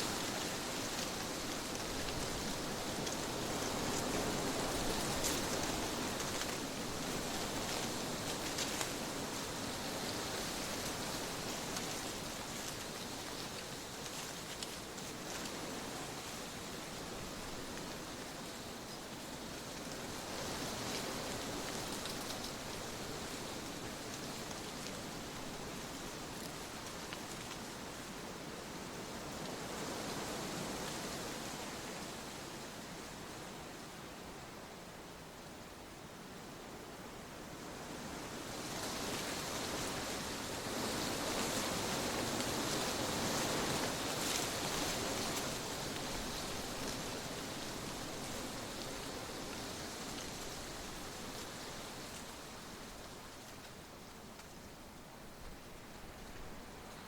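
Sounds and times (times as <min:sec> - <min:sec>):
wind blowing steadily: 0:00.0 - 0:57.0.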